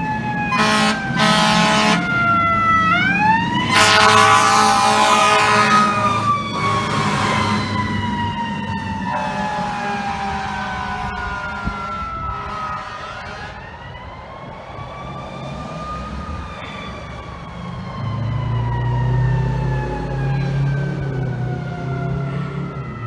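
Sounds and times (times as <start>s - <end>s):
fire engine siren wailing: 0.0s - 23.0s
deep steady horn blare: 0.1s - 23.0s.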